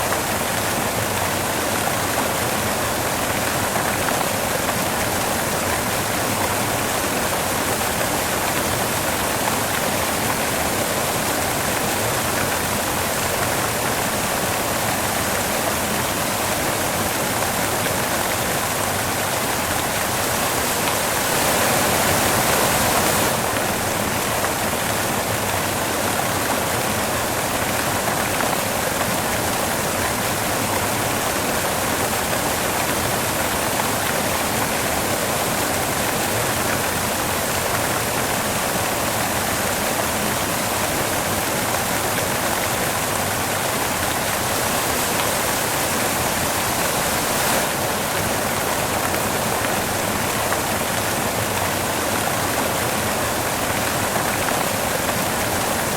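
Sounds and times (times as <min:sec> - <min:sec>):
steady white noise hiss: 0:00.0 - 0:55.9.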